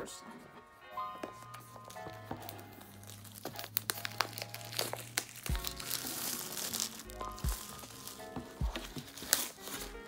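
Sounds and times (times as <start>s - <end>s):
background music: 0.0s - 10.0s
plastic shrink-wrap crinkling: 1.3s - 10.0s
plastic tearing: 1.4s - 10.0s.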